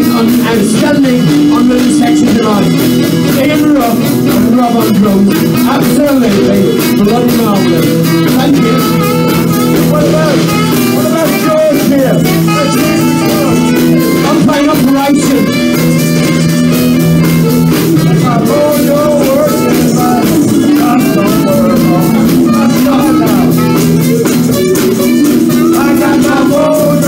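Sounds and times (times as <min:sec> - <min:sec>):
bass guitar: 0:00.0 - 0:27.0
drum kit: 0:00.0 - 0:27.0
electric guitars: 0:00.0 - 0:27.0
saxophone: 0:00.0 - 0:27.0.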